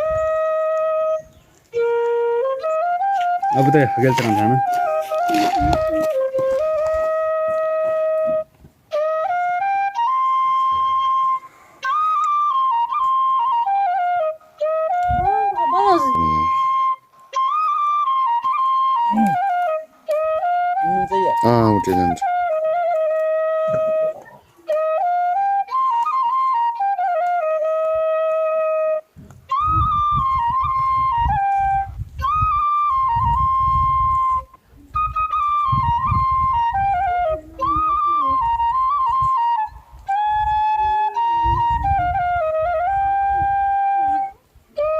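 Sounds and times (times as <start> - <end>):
flute playing slow melody: 0.0 - 44.9.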